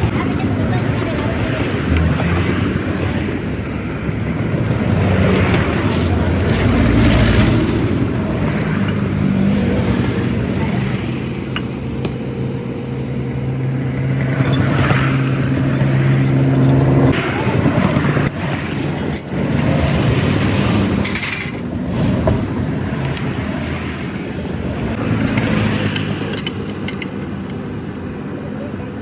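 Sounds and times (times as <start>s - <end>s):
road traffic noise: 0.0s - 29.0s
vehicle engine humming: 0.0s - 29.0s.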